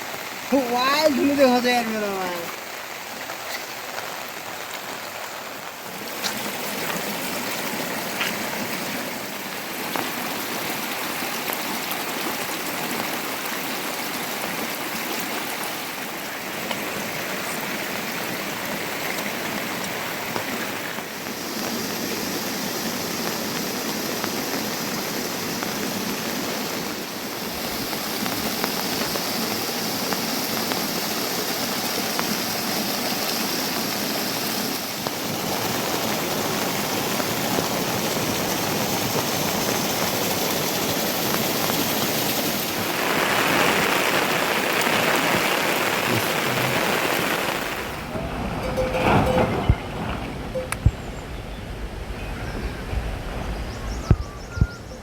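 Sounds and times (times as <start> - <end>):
water rushing in rain: 0.0 - 55.0.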